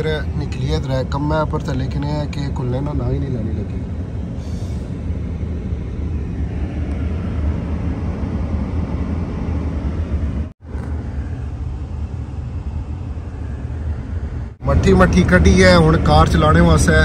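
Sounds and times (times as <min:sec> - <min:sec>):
car engine running: 0:00.0 - 0:17.0
heater fan blowing: 0:00.0 - 0:17.0.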